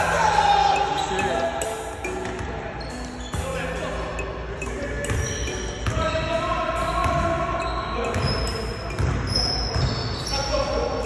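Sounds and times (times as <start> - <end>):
players' voices: 0.0 - 11.0.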